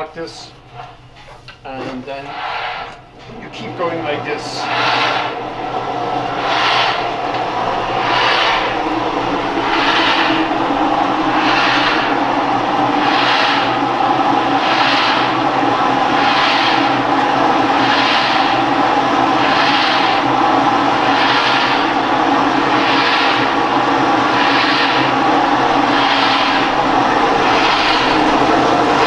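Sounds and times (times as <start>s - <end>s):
paddling ergometer whirring: 0.0s - 29.0s.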